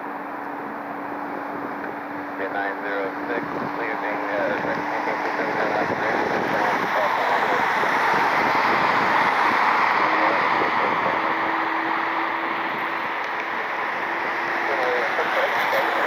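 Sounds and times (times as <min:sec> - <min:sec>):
jet aircraft passing: 0:00.0 - 0:16.0.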